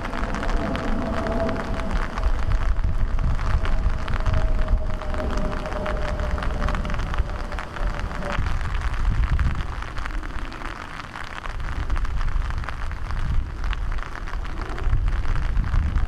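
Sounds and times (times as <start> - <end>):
low rumble: 0.0 - 16.0
rain on wet pavement: 0.0 - 16.0.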